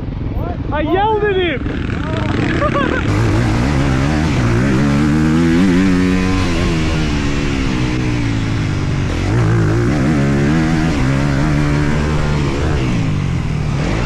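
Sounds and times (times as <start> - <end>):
motocross engine revving: 1.6 - 14.0.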